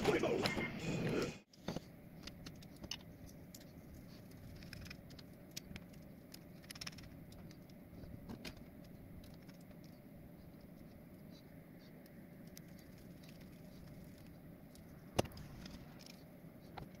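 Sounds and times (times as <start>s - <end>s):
faint low hum: 0.0s - 17.0s
plastic parts being handled: 1.5s - 17.0s.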